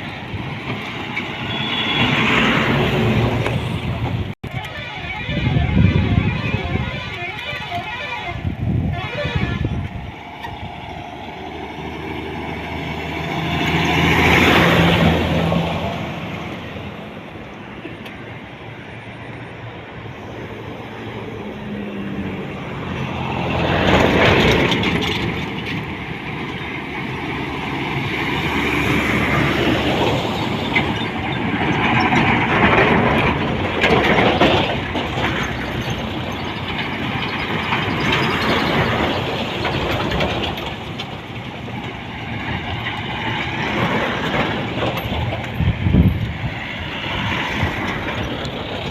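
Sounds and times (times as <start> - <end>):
heavy trucks and buses passing: 0.0 - 48.9.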